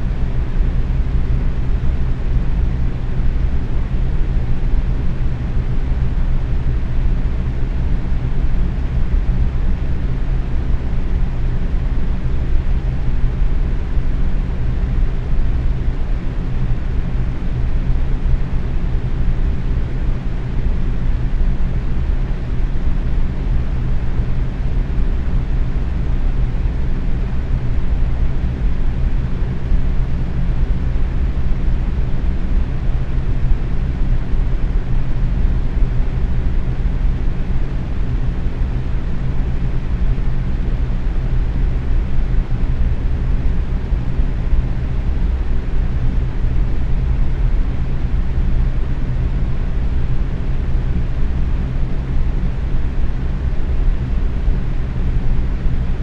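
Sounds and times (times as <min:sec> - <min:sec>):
faint motor hum: 0:00.0 - 0:56.0.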